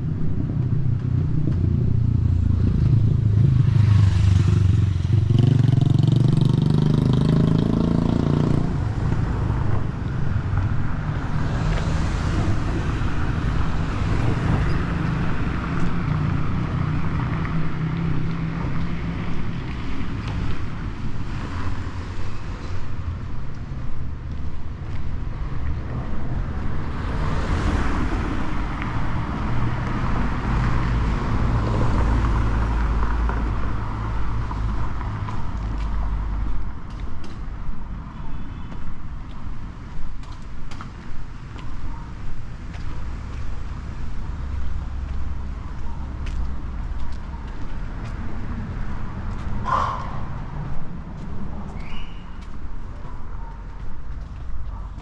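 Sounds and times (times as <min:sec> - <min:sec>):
cars passing by: 0:00.0 - 0:55.0.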